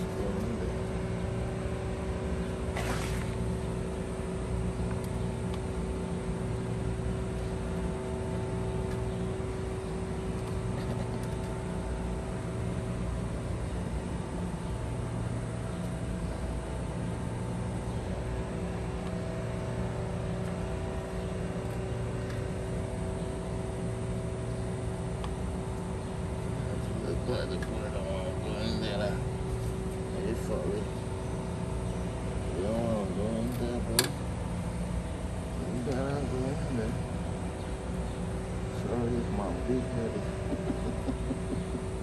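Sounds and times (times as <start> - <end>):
low mechanical hum with tone: 0.0 - 42.0.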